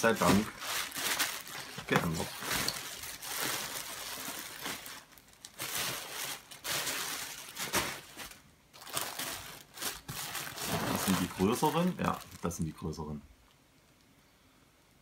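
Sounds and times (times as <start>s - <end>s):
plastic bags crinkling: 0.0s - 12.8s.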